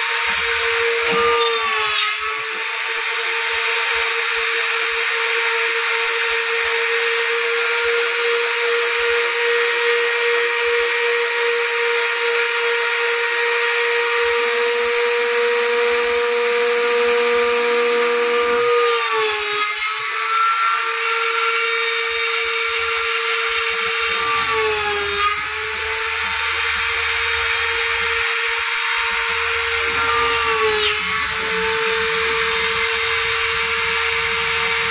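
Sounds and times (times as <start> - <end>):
electric router high whine: 0.0 - 34.9.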